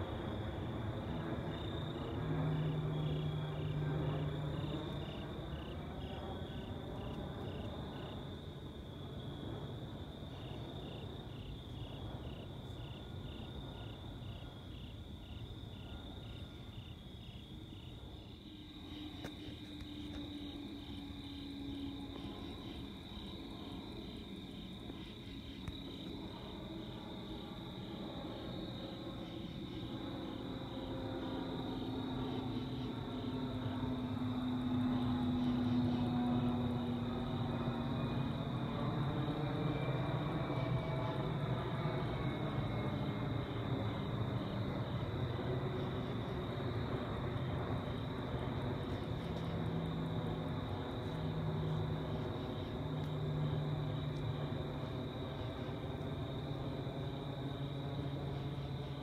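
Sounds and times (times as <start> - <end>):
night insects chirping: 0.0 - 59.0.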